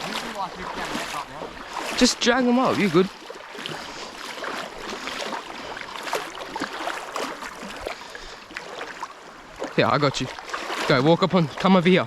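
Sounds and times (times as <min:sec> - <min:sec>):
water splashing in a creek: 0:00.0 - 0:12.0.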